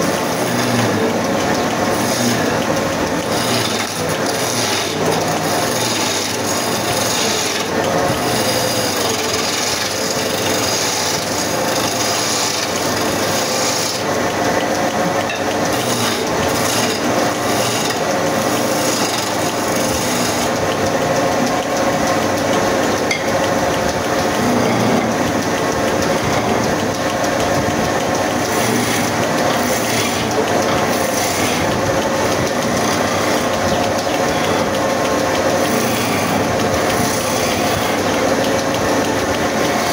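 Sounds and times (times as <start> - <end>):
chisel scraping spinning wood: 0.0 - 39.9
lathe humming: 0.0 - 39.9.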